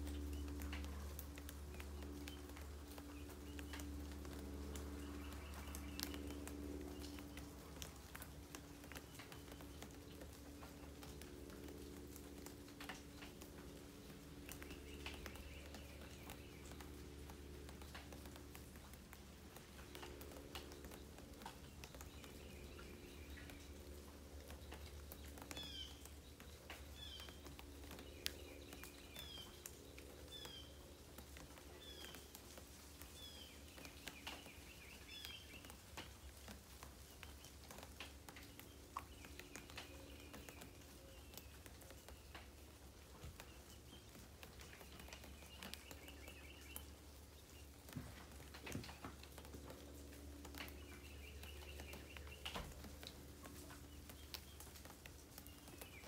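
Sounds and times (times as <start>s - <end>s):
light rain pattering: 0.0s - 56.0s.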